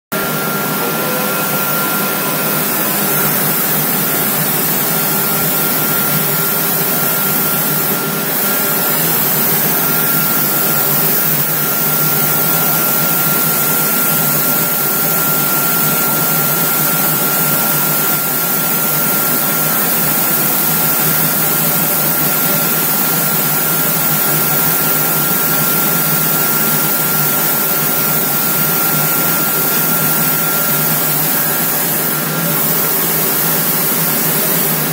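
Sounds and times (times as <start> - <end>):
machine hiss with high whine: 0.2 - 34.9.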